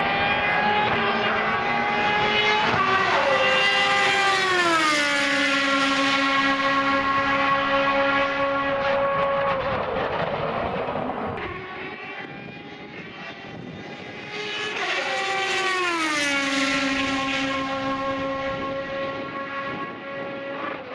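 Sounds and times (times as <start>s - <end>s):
racing car passing at speed: 0.0s - 20.9s.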